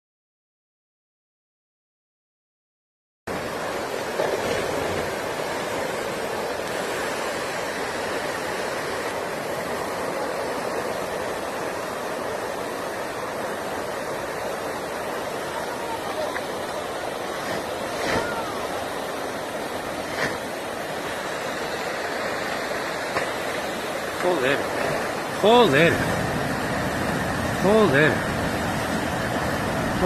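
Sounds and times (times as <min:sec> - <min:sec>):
river water rushing: 0:03.3 - 0:30.0.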